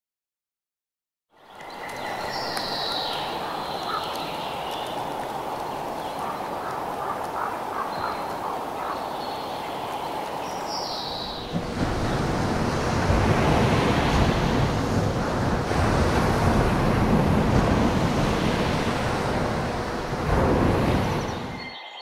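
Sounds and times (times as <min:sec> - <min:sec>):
waves washing onto rocks: 0:01.8 - 0:21.5.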